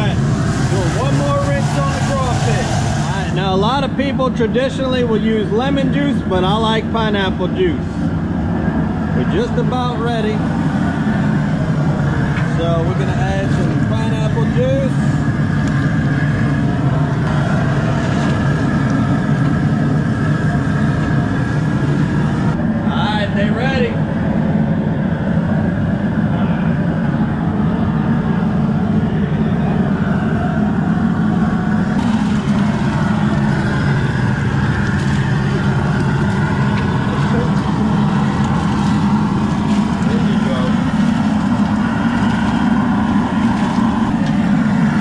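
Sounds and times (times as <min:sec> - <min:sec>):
gas burner rumbling: 0:00.0 - 0:45.0.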